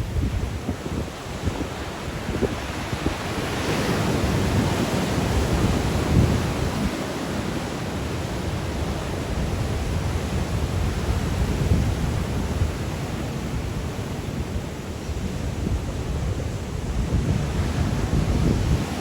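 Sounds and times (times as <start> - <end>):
sea waves breaking on shore: 0.0 - 19.0
wind buffeting microphone: 0.0 - 19.0.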